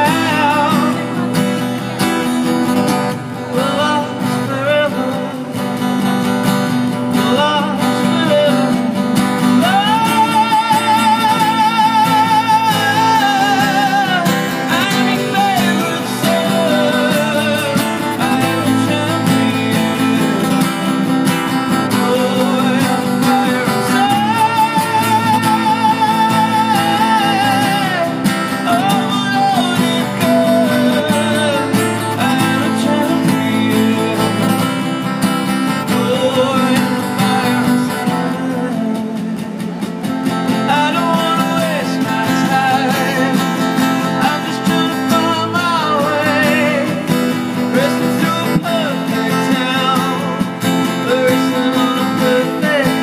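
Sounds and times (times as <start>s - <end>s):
acoustic guitars strumming: 0.0s - 53.0s
man singing with vibrato: 0.0s - 53.0s.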